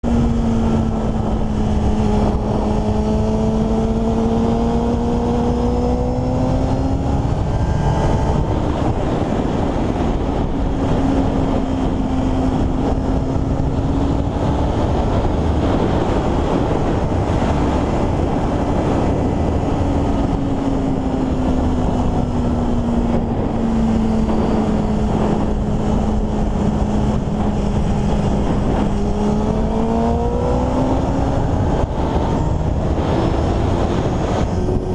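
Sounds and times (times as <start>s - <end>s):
loud continuous rushing noise: 0.0s - 34.9s
motorcycle engine running: 0.0s - 34.9s.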